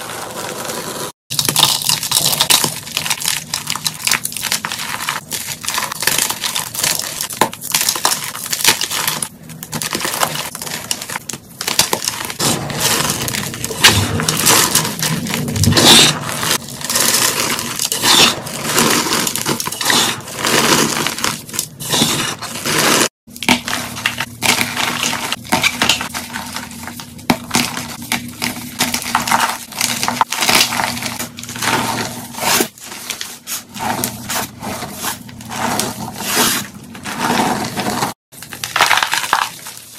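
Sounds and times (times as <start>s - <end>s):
hands crushing chalk blocks: 1.3s - 39.9s.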